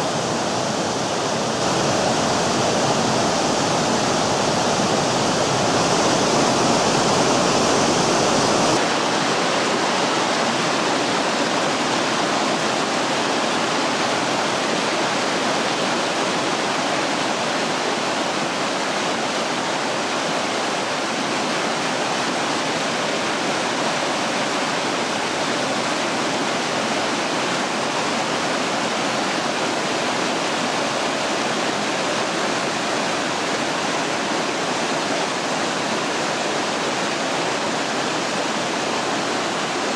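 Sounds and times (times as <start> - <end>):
stream cascading over rocks: 0.0 - 39.9
waterfall rushing: 0.0 - 39.9.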